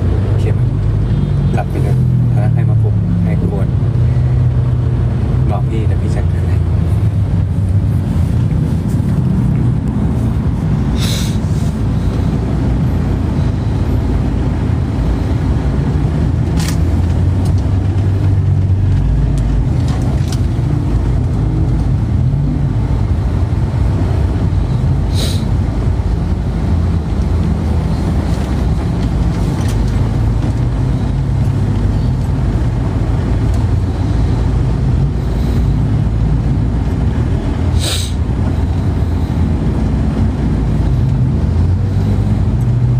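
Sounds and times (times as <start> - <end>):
moving car rumble: 0.0 - 42.9.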